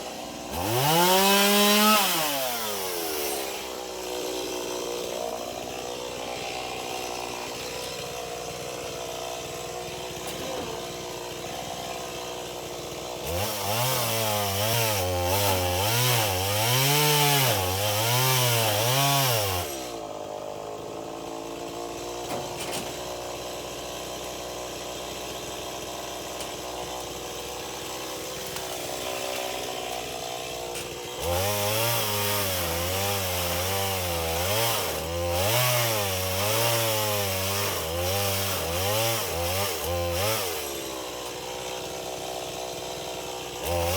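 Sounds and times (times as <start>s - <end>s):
chainsaw cutting tree trunk: 0.0s - 43.9s.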